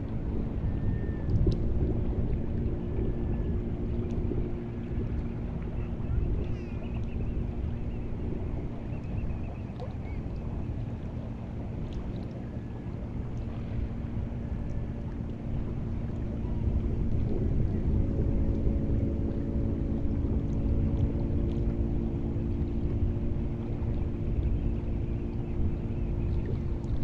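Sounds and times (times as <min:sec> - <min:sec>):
constant low drone: 0:00.0 - 0:27.0
wind and water rumble: 0:00.0 - 0:27.0.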